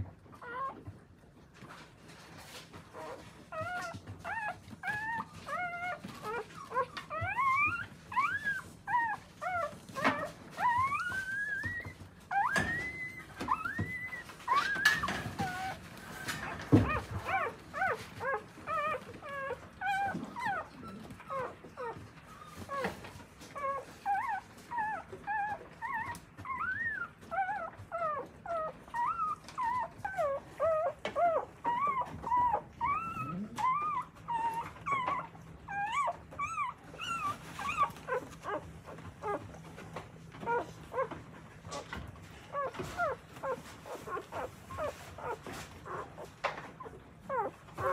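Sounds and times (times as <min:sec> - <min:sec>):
puppies squeaking and whimpering: 0:00.0 - 0:47.9.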